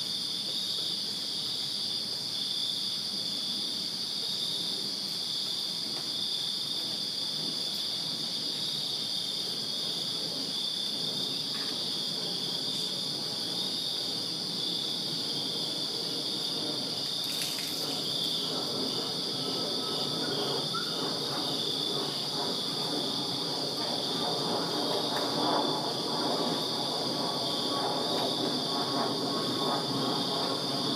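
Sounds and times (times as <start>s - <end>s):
crickets chirping: 0.0s - 30.9s.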